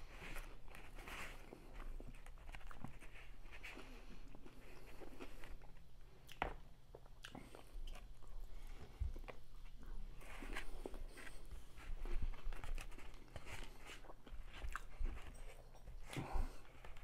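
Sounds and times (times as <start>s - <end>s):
crunchy chewing of fried food: 0.0s - 17.0s.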